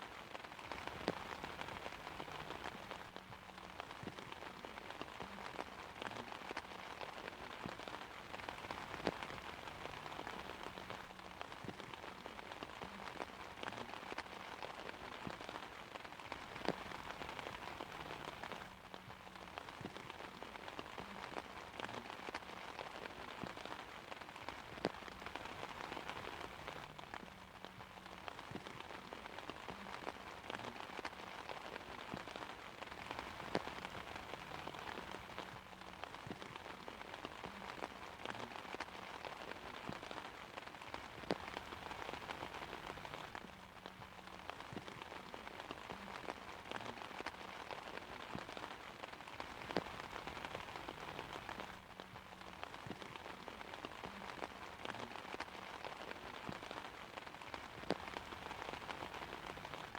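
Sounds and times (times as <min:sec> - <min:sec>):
rain falling on an umbrella: 0:00.0 - 0:59.9.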